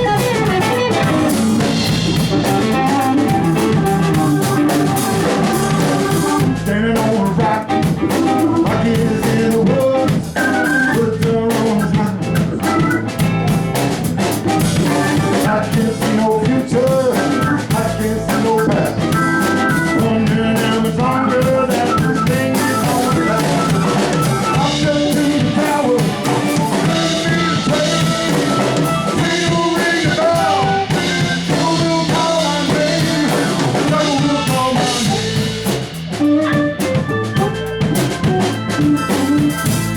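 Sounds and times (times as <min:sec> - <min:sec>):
band playing a song: 0:00.0 - 0:39.9
drum kit: 0:00.0 - 0:39.9
guitar: 0:00.0 - 0:39.9.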